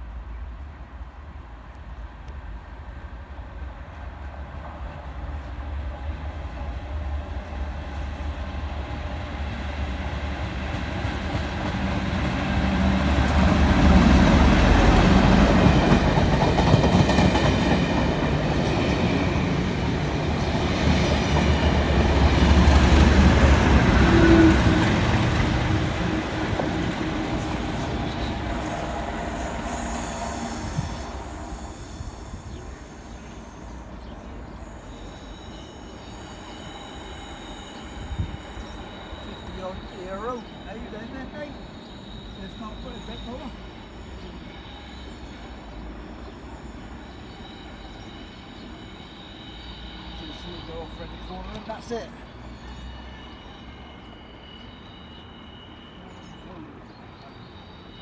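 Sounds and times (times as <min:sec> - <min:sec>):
diesel locomotive passing: 0:00.0 - 0:58.0
train wheels on rails: 0:01.0 - 0:55.9.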